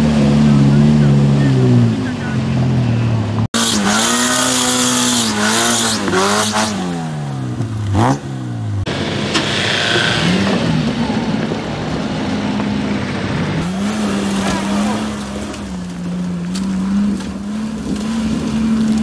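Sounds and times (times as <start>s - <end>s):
off-road engine revving: 0.0s - 19.0s
off-road engine running steadily: 0.0s - 19.0s.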